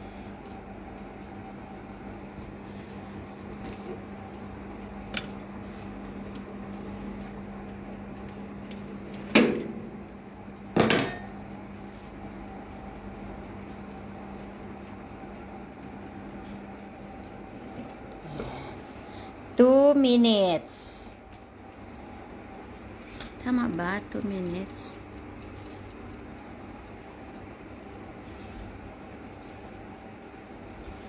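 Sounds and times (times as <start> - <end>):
toaster oven humming: 0.0 - 31.0.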